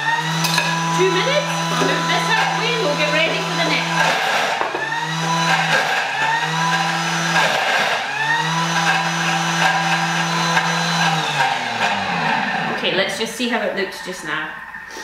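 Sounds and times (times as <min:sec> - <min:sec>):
blender motor running: 0:00.0 - 0:12.9.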